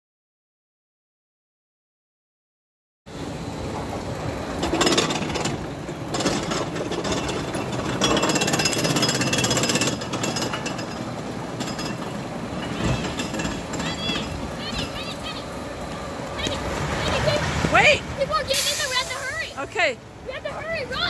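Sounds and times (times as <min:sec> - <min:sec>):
roller coaster clattering on track: 0:03.3 - 0:21.0.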